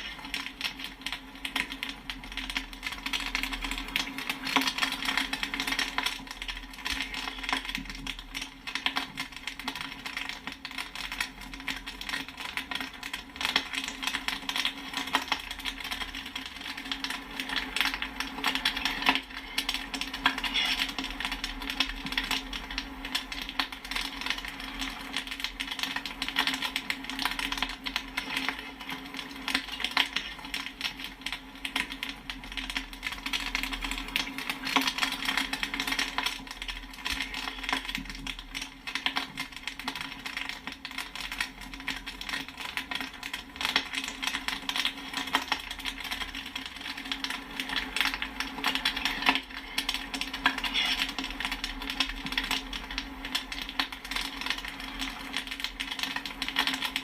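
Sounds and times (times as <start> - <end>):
popcorn popping: 0.0 - 57.0.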